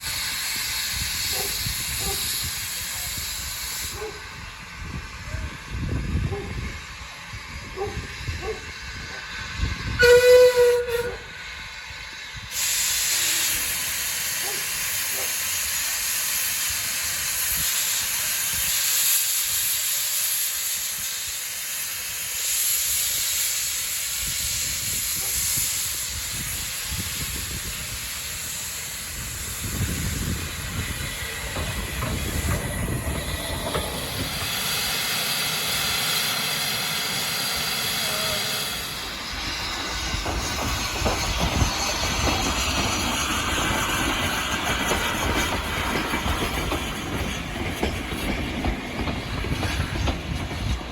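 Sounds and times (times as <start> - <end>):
steam locomotive hissing: 0.0 - 50.9.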